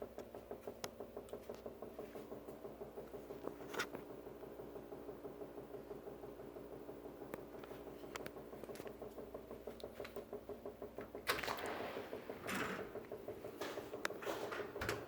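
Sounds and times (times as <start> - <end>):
machine pulsing beat: 0.0 - 14.8.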